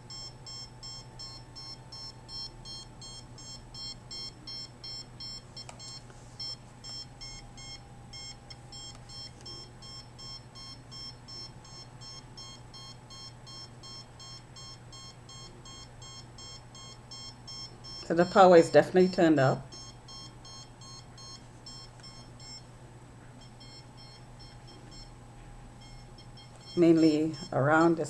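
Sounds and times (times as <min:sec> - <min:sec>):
meter alarm beeping rapidly: 0:00.0 - 0:22.7, 0:23.4 - 0:28.0.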